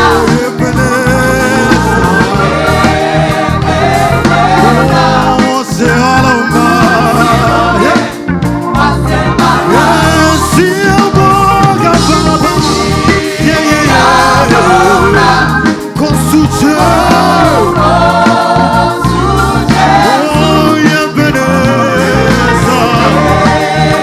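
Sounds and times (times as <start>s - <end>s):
choir singing: 0.0s - 24.0s
full band playing: 0.0s - 24.0s
lead vocalist singing: 0.0s - 24.0s.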